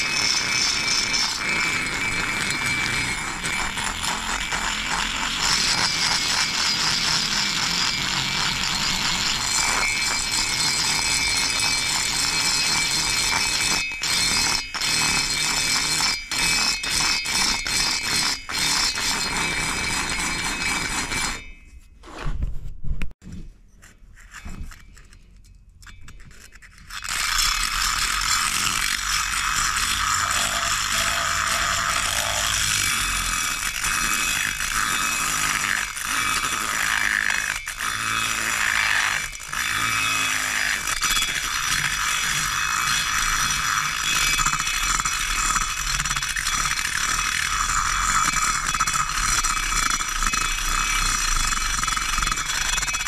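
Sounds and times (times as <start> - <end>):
rotary grinder grinding metal: 0.0 - 21.7, 25.8 - 53.0.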